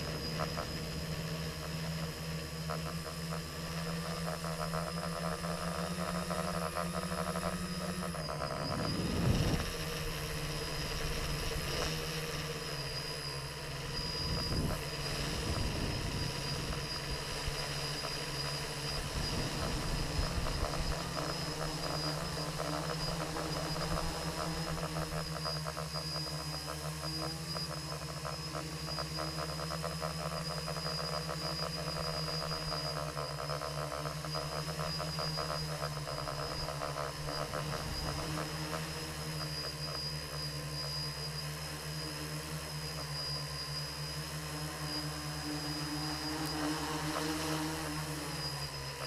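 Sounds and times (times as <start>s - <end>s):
drone propellers whining: 0.0s - 49.0s.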